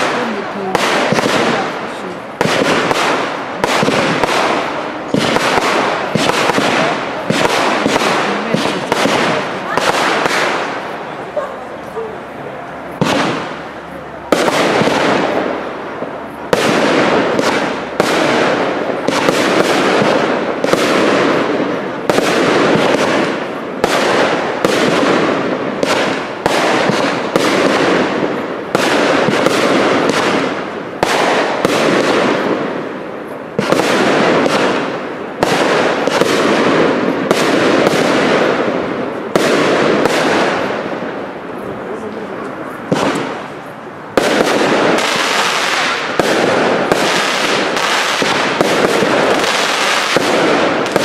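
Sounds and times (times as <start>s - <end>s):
cake fireworks bangs: 0.0s - 51.0s.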